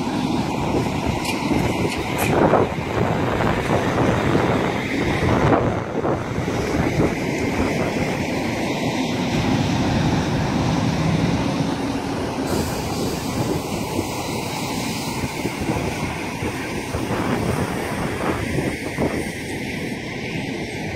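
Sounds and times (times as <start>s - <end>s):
low engine hum: 0.0s - 20.9s
truck engine and tyres rumbling: 0.0s - 20.9s.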